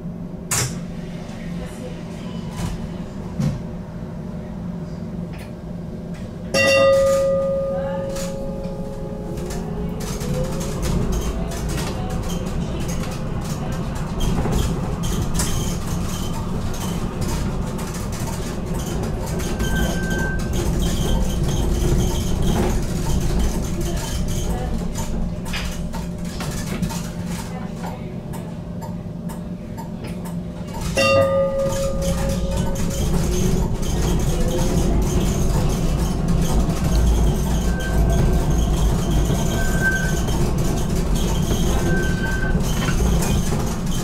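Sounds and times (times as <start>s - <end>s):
wheels rumbling on rails: 6.1s - 28.0s, 30.1s - 44.0s.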